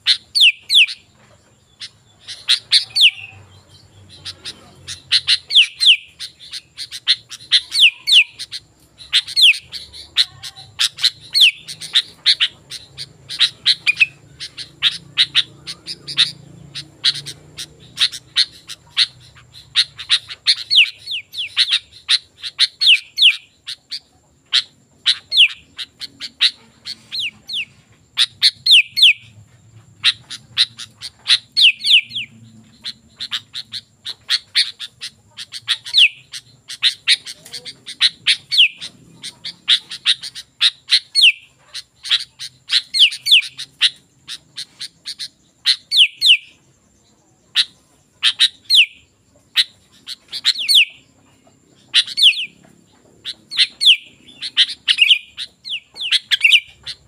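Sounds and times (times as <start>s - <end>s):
bird chirping and whistling: 0.0s - 1.0s, 1.9s - 24.0s, 24.6s - 29.4s, 30.0s - 46.6s, 47.6s - 51.1s, 51.8s - 52.6s, 53.2s - 57.0s.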